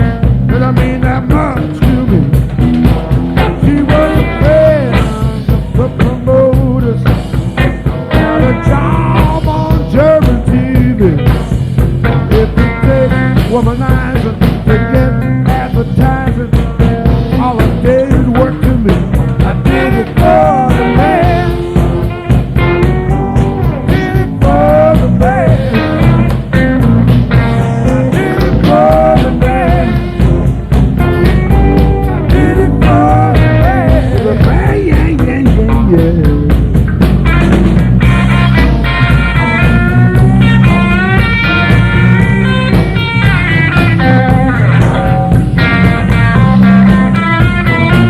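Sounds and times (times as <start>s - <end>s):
bending lead guitar line: 0.0s - 48.0s
live blues-rock band playing: 0.0s - 48.0s
steady drum beat: 0.0s - 48.0s.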